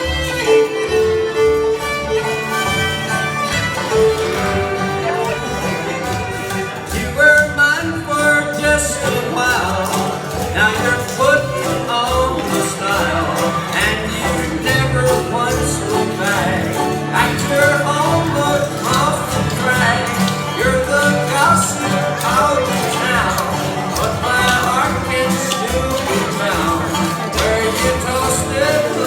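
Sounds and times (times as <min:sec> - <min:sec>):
live bluegrass band music: 0:00.0 - 0:29.0.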